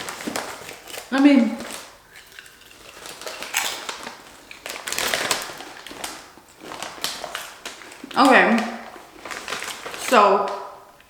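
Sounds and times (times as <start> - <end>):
potato chips being crunched: 0.0 - 10.8.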